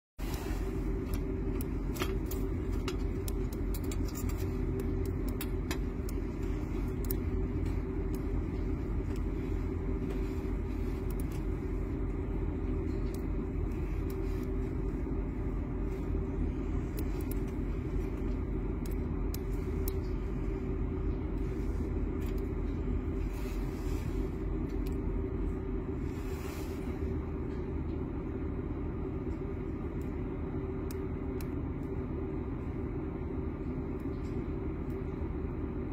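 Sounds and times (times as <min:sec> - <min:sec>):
low mechanical engine drone: 0:00.2 - 0:35.9.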